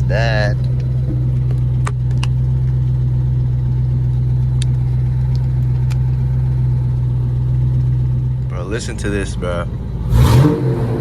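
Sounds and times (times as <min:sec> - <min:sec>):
car engine running loud exhaust: 0:00.0 - 0:11.0.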